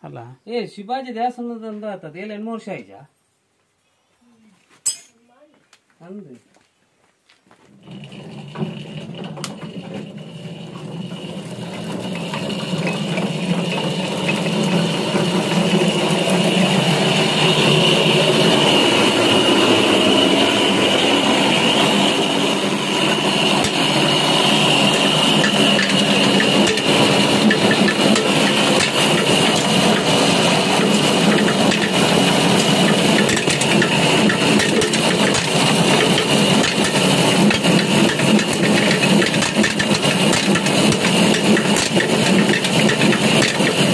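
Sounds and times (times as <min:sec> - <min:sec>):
peeling machine hum and whine: 0:07.8 - 0:43.9
rapid rattle of nuts: 0:07.8 - 0:43.9.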